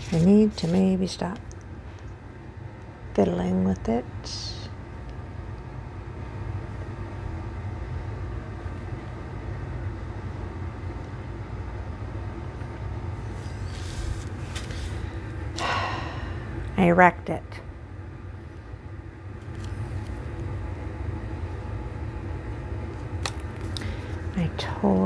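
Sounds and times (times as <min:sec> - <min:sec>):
faint hum: 0:00.0 - 0:25.0
low background rumble: 0:00.0 - 0:25.0.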